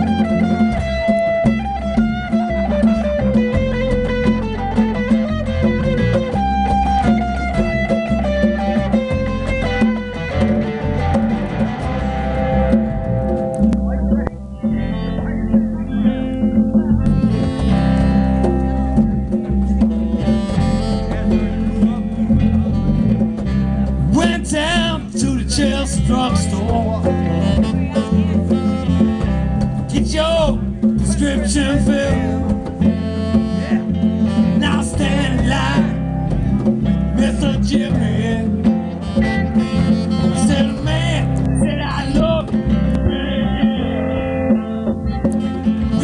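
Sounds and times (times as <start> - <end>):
saxophone: 0.0 - 25.0, 26.0 - 30.3, 30.9 - 37.1, 38.0 - 46.0
acoustic guitar: 0.0 - 46.0
congas and hand drum: 0.0 - 46.0
electric bass: 0.0 - 46.0.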